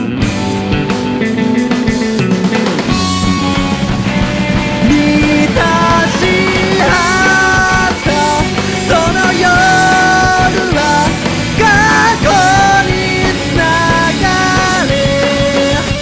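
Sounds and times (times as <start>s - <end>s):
rock band playing: 0.0s - 16.0s
sliding lead melody: 0.0s - 16.0s.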